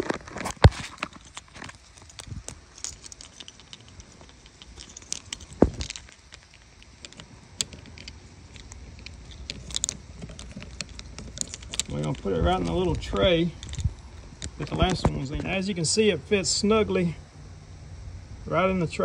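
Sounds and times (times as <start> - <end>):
plastic parts clicking and rattling: 0.0 - 15.5.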